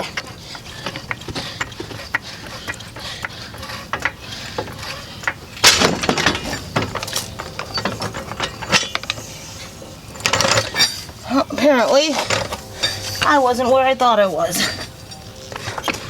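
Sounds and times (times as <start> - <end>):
car jack clicking and clanking: 0.0 - 16.0.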